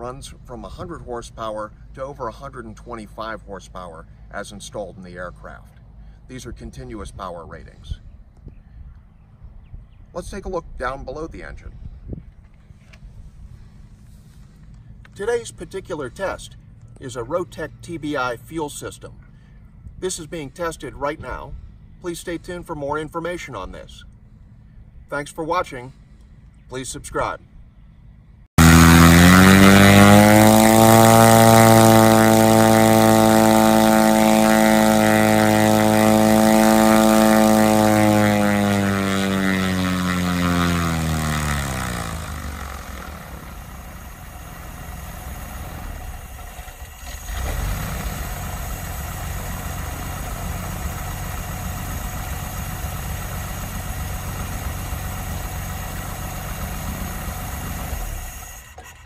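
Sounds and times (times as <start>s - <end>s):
aircraft engine with propeller: 10.6s - 26.8s, 27.4s - 59.0s.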